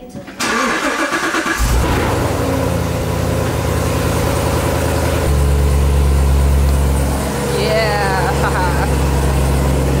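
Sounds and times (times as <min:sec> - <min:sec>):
car engine idling: 0:00.4 - 0:10.0.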